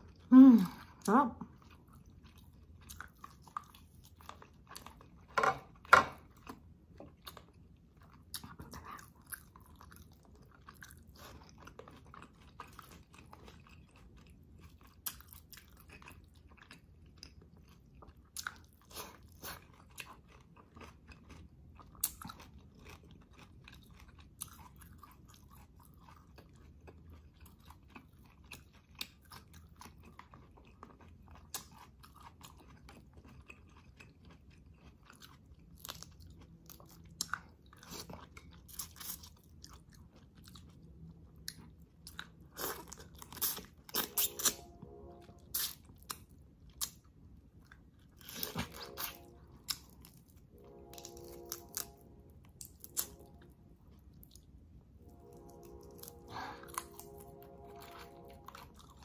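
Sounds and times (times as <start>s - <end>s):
person chewing: 0.0s - 59.0s.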